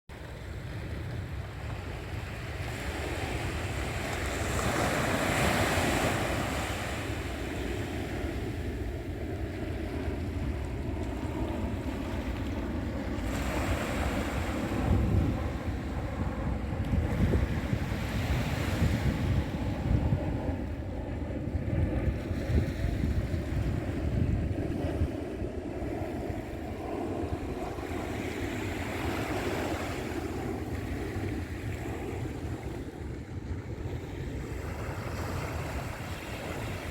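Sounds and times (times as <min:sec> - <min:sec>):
wind buffeting microphone: 0:00.2 - 0:36.9.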